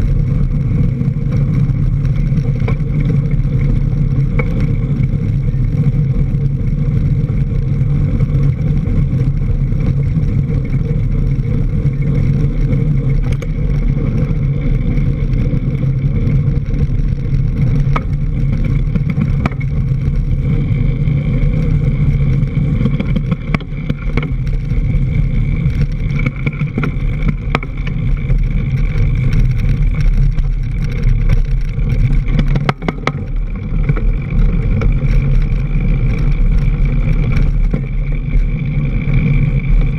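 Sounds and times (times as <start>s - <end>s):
bike clicks and knocks: 0.0s - 39.9s
wind on microphone: 0.0s - 39.9s.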